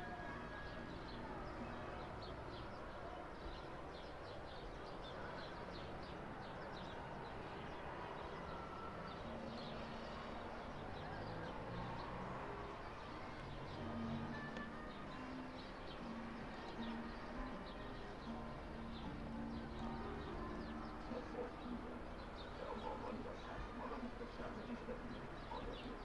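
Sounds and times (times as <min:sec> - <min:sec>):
steady background noise: 0:00.0 - 0:26.0
small birds chirping: 0:00.7 - 0:26.0.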